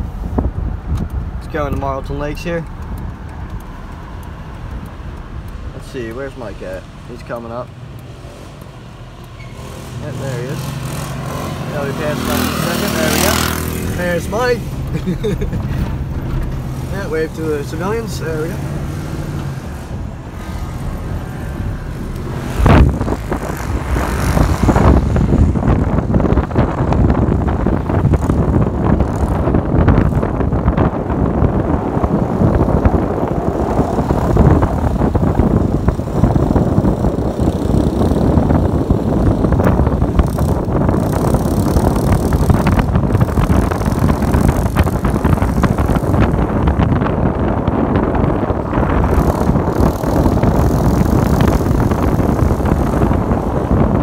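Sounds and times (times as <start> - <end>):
vehicle road rumble: 0.0 - 54.0
wind buffeting microphone: 0.0 - 54.0.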